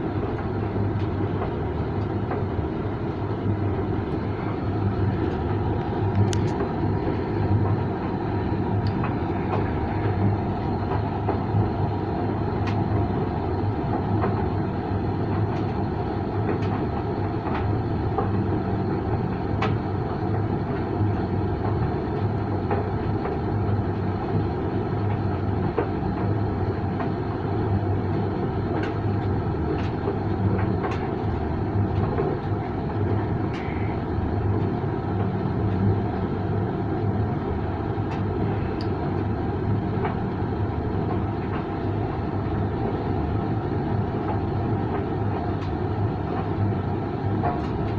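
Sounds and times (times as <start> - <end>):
tumble dryer running: 0.0 - 47.9.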